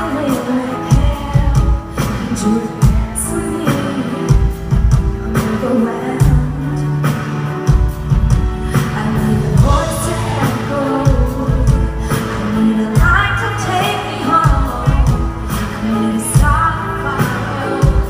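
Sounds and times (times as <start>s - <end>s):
live pop ballad: 0.0s - 18.0s
person singing: 0.0s - 18.0s.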